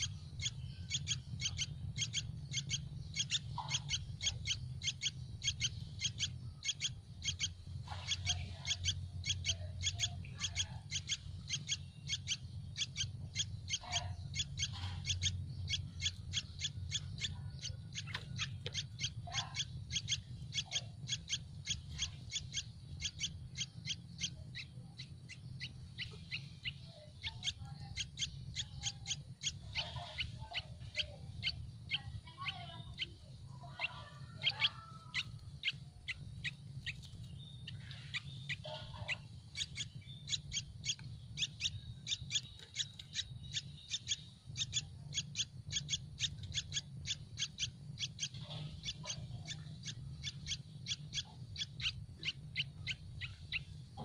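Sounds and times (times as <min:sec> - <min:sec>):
low steady rumble: 0:00.0 - 0:54.0
nestlings high peeping calls: 0:00.0 - 0:54.0.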